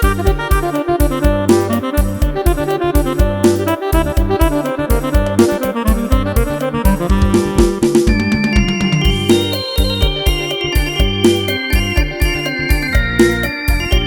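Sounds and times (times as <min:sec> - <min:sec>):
electronic keyboard melody: 0:00.0 - 0:14.0
pounding drum and bass beat: 0:00.0 - 0:14.0.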